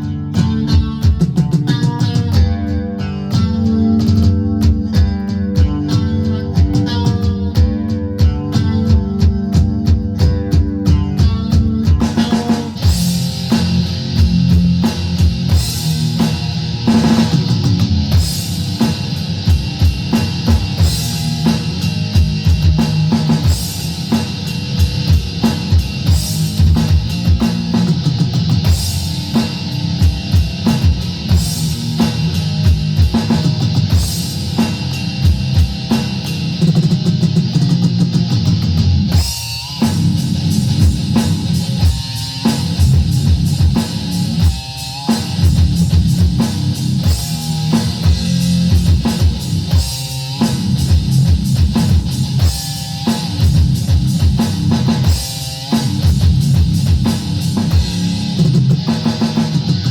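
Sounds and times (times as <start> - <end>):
drum kit steady beat: 0.0 - 59.9
electric guitar: 0.0 - 59.9
instrumental rock music: 0.0 - 59.9.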